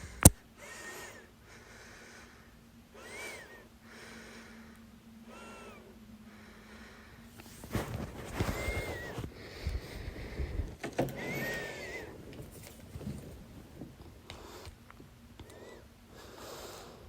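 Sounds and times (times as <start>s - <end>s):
breathing: 0.0s - 13.4s, 14.2s - 14.8s, 15.4s - 17.0s.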